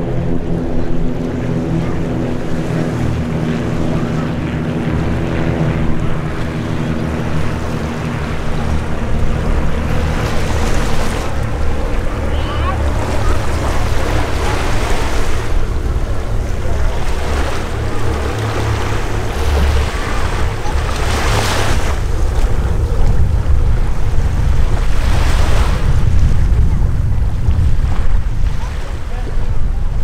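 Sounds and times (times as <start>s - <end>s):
surf washing: 0.0s - 30.0s
wind rumbling on microphone: 0.0s - 30.0s.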